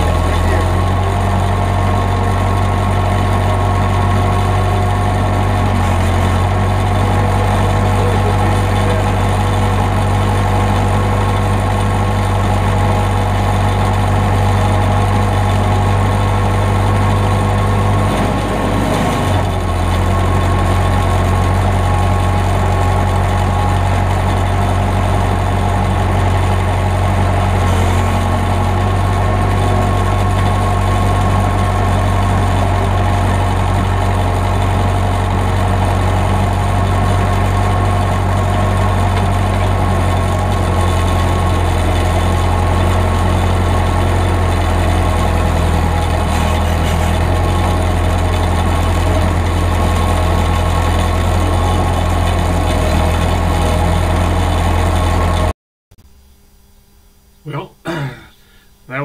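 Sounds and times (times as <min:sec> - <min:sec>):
diesel backhoe engine running: 0:00.0 - 0:55.5.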